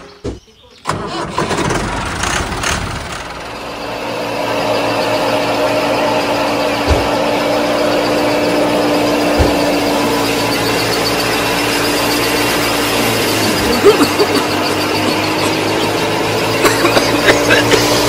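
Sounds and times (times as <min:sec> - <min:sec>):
toy tractor mechanical hum: 0:00.8 - 0:18.0.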